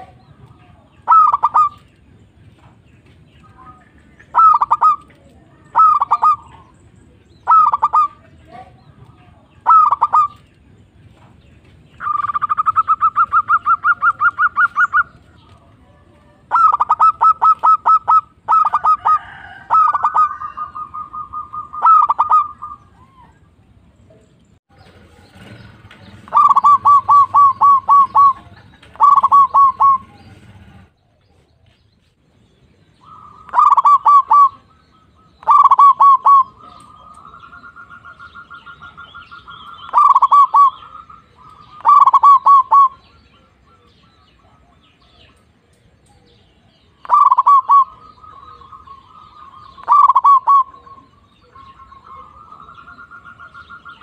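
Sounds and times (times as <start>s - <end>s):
dove cooing: 0.0s - 1.9s, 3.5s - 10.4s, 12.0s - 23.5s, 25.0s - 31.2s, 33.0s - 54.0s.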